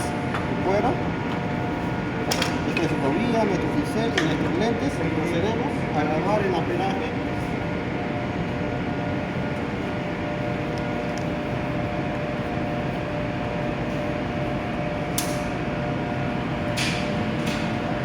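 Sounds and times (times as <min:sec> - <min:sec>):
welding machine hum and fan: 0:00.0 - 0:18.0.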